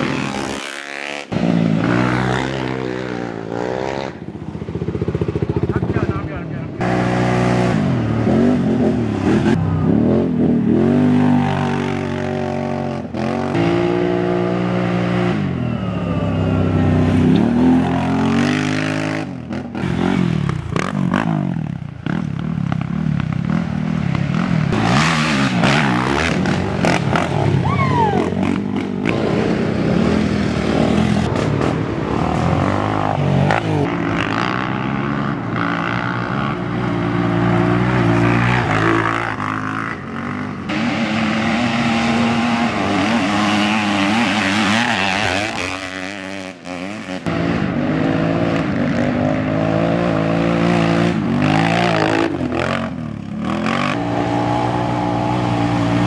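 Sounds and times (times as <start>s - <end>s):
quad engines revving: 0.0s - 56.0s.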